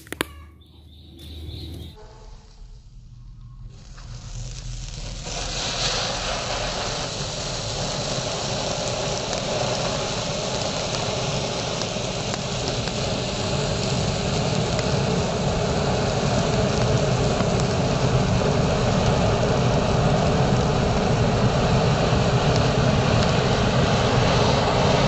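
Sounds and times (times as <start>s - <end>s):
faint crackles: 2.3s - 25.0s
fountain firework hissing: 3.6s - 25.0s.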